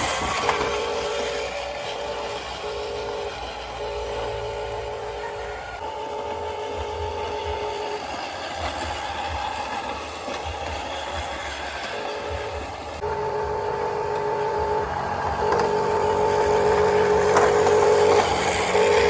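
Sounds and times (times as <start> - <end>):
toy truck motors and gears whining: 0.0 - 19.0.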